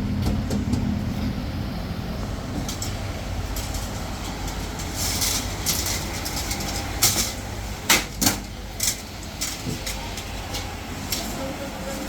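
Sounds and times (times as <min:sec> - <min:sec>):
factory machinery rumbling: 0:00.0 - 0:12.0.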